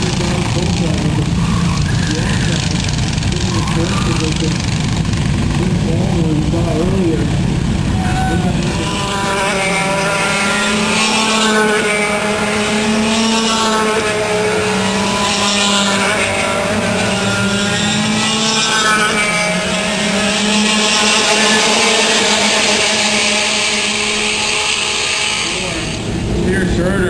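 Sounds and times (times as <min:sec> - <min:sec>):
go-kart engines racing: 0:00.0 - 0:27.0.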